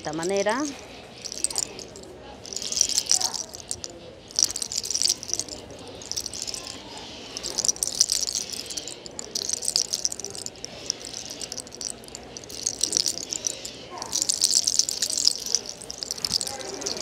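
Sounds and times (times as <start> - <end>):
fingers rubbing hair crackling: 0.1 - 17.0.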